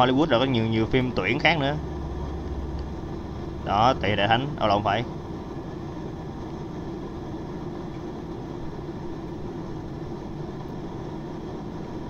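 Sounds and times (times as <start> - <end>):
airliner engine drone: 0.0 - 12.0
low hum: 0.0 - 12.0
rushing air: 0.6 - 12.0.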